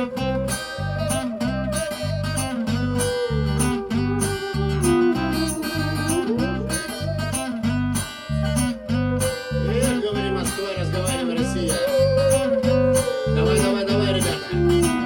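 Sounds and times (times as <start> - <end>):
guitar: 0.0 - 15.0
pulsing bass guitar: 0.0 - 15.0.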